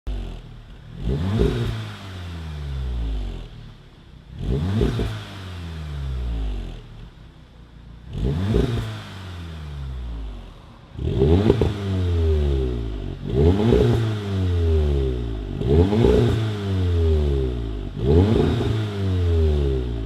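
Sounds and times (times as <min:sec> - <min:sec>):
car engine revving: 0:00.1 - 0:20.0.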